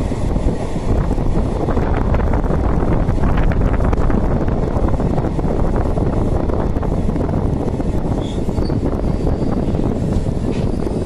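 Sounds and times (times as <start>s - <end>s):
train clattering: 0.0s - 11.0s
train wheels rumbling on track: 0.0s - 11.0s
wind buffeting microphone: 0.0s - 11.0s.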